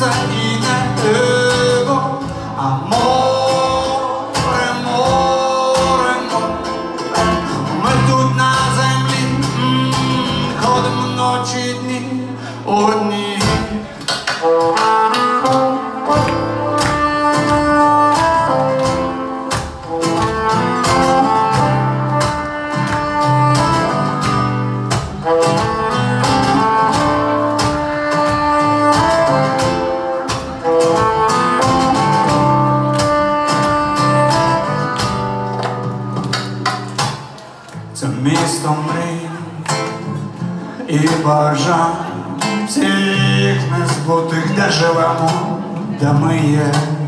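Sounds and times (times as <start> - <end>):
live pop-rock band playing: 0.0 - 47.0.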